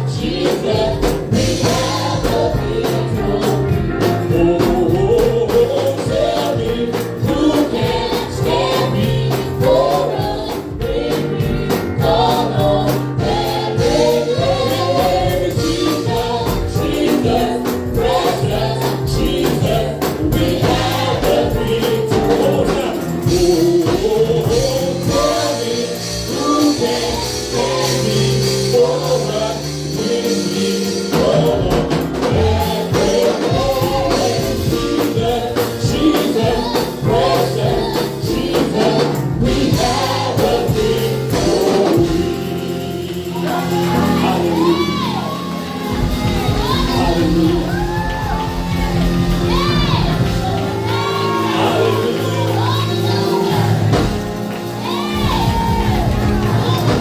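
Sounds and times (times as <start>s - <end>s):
band playing: 0.0s - 57.0s
bass notes: 0.0s - 57.0s
group of voices singing: 0.0s - 57.0s
percussion strokes: 0.0s - 57.0s.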